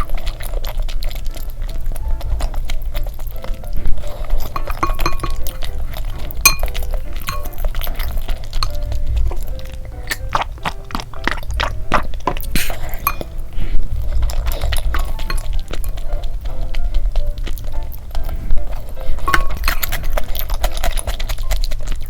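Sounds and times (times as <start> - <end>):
light background music: 0.0 - 22.0
utensils clinking against a dish: 0.0 - 22.0.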